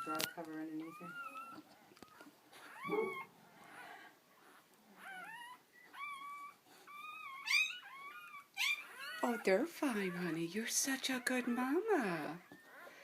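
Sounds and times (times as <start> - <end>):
puppies crying: 0.0 - 13.0.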